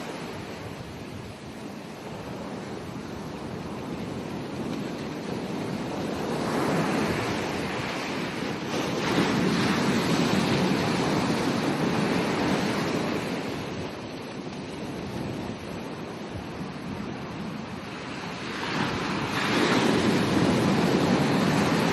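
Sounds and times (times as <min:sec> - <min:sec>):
ocean surf breaking on beach: 0:00.0 - 0:21.9.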